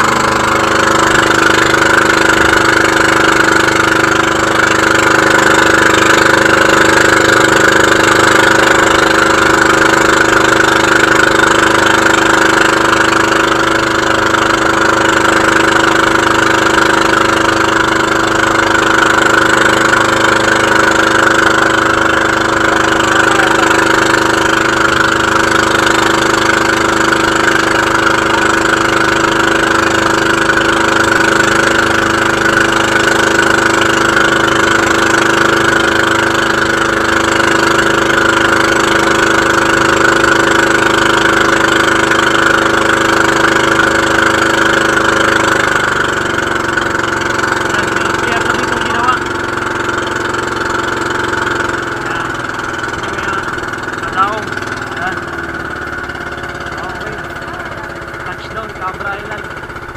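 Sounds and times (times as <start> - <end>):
boat engine running: 0.0 - 59.9
water rushing along hull: 0.0 - 59.9.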